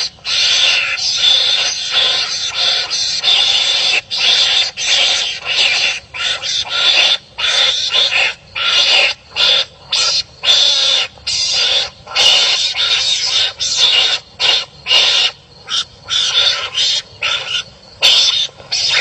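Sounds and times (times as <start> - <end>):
wild animals barking and screeching: 0.0 - 19.0.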